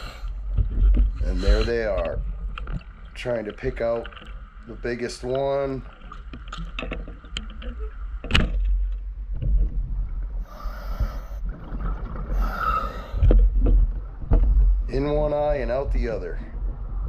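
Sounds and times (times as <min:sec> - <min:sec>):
low underwater rumble: 0:00.0 - 0:17.0.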